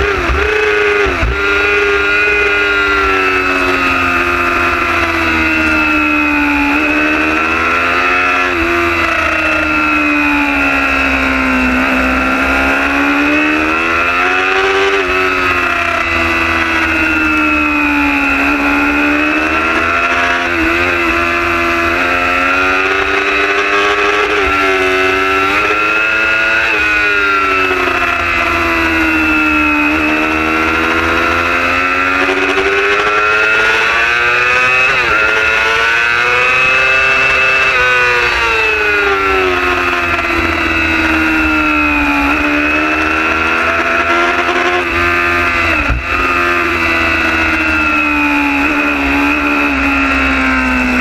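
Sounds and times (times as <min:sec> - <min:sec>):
motorcycle engine at high revs: 0:00.0 - 0:51.0.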